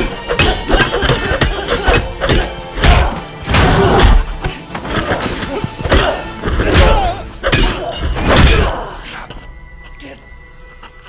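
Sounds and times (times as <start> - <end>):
action music: 0.0 - 11.0.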